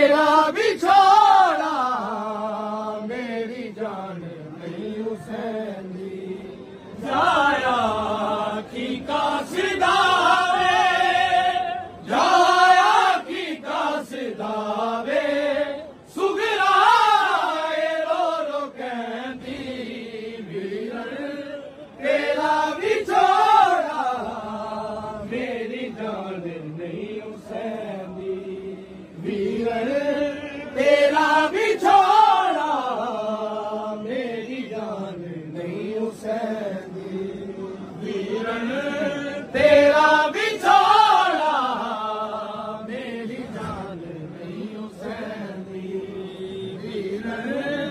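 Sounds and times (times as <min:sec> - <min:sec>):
men chanting a lament: 0:00.0 - 0:47.9.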